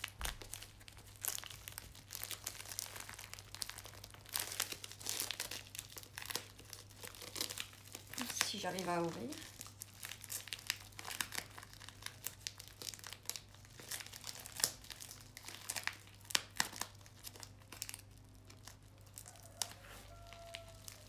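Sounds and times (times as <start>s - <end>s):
packaging tearing and crinkling: 0.0s - 21.0s.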